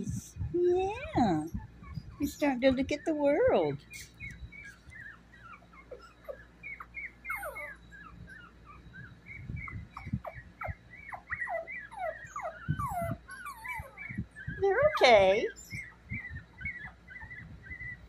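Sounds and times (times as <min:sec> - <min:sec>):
puppy squeaking and whimpering: 0:00.9 - 0:18.0.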